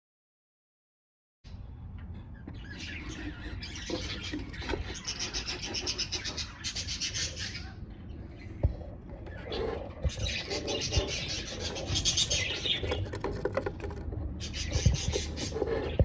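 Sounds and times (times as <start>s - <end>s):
budgerigars chirping and squawking: 2.0s - 13.6s, 14.3s - 16.0s.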